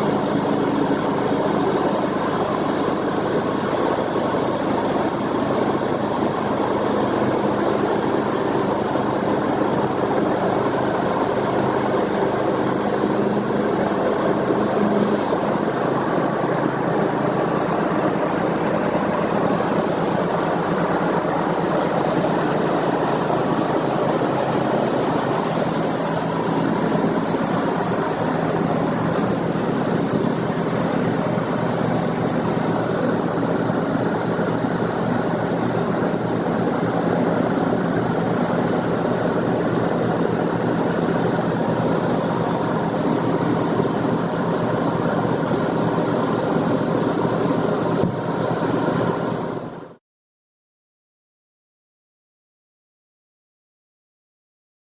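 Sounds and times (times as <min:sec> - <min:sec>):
machinery engine running steadily: 0:00.0 - 0:50.0.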